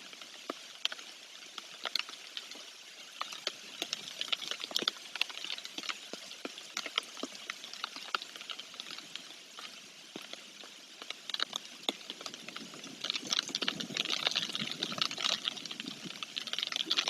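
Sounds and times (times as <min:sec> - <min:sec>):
rain falling: 0:00.0 - 0:17.0
raindrops ticking: 0:00.1 - 0:17.0.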